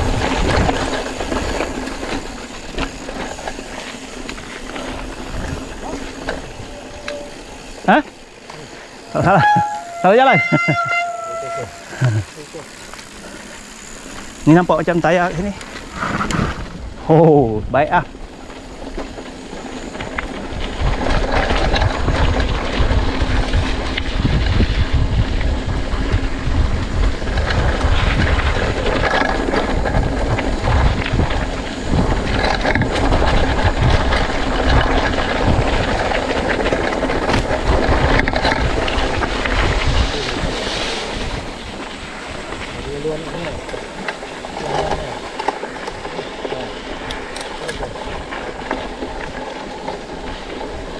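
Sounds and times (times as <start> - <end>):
bike rattling over rough ground: 0.0 - 50.9
wind rumbling on microphone: 0.0 - 50.9.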